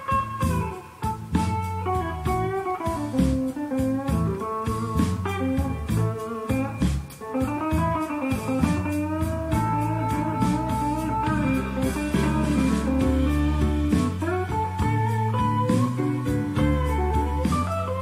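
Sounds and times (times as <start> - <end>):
guitar blues music: 0.0 - 18.0.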